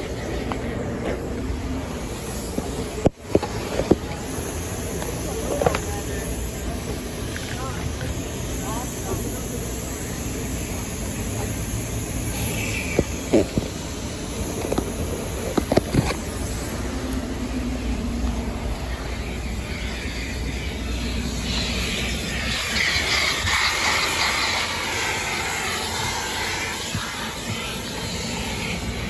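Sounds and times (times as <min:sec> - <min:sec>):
vacuum hose sucking air: 0:00.0 - 0:29.0.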